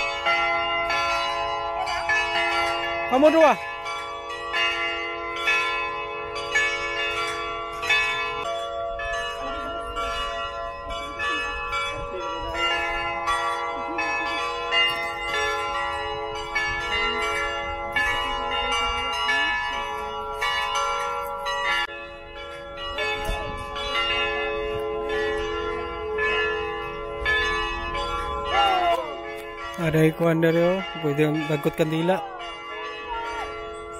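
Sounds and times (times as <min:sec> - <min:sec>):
church bells ringing: 0:00.0 - 0:33.9.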